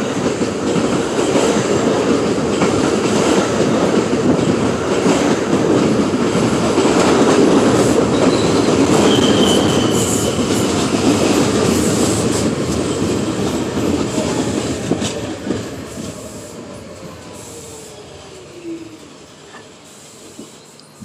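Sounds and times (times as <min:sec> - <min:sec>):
subway train rumbling: 0:00.0 - 0:21.0.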